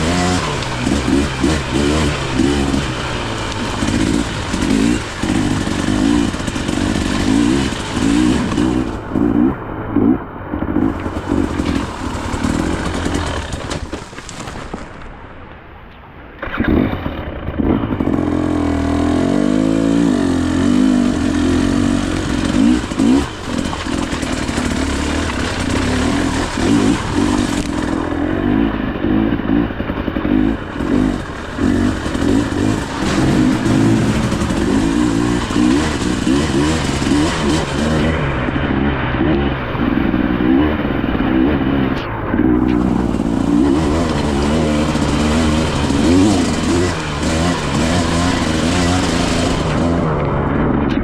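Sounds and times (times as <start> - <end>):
two-stroke engine revving: 0.0 - 14.2, 16.4 - 51.0.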